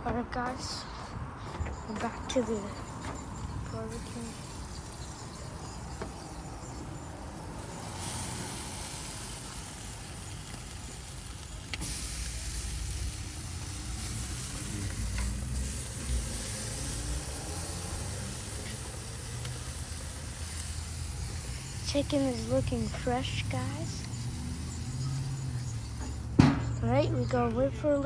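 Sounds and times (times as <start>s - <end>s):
low uneven rumble: 0.5s - 28.0s
chicken sizzling on a grill: 2.5s - 27.9s.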